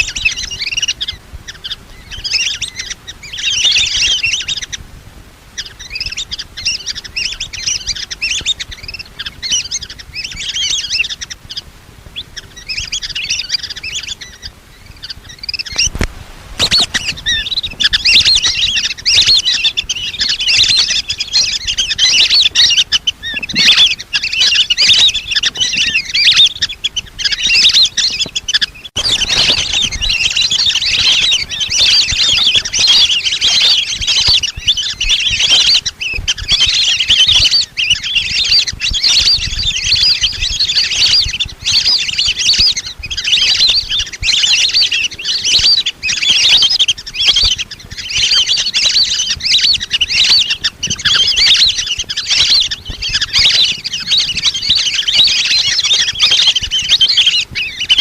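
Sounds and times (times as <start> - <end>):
ducks whistling: 0.0 - 4.8, 5.5 - 58.0.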